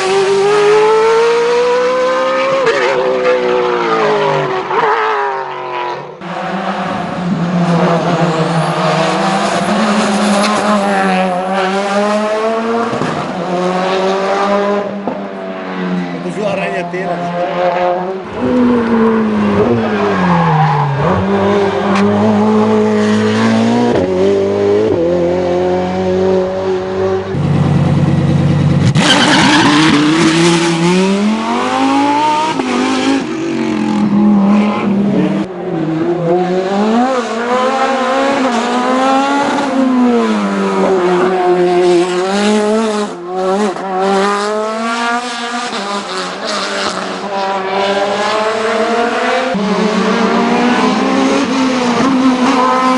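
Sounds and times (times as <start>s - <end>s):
racing car engine at high revs: 0.0s - 52.9s.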